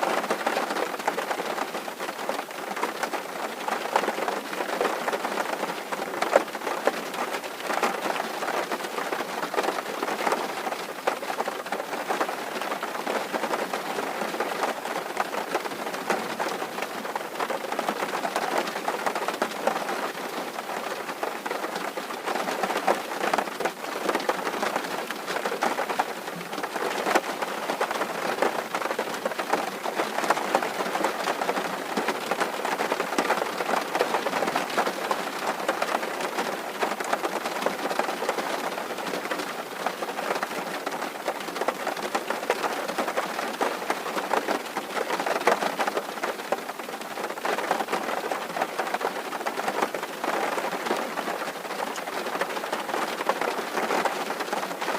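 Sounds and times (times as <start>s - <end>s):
rain drumming on a tin roof: 0.0s - 54.9s.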